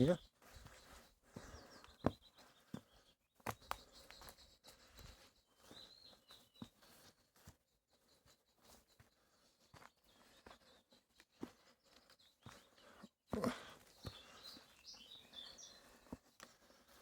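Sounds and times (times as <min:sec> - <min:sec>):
footsteps on outdoor path: 0:00.0 - 0:17.0
small birds chirping: 0:00.0 - 0:17.0.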